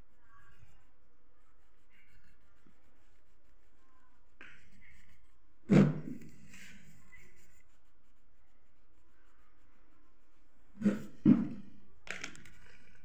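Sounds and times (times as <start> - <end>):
crayon rubbing on paper: 0.0 - 13.0.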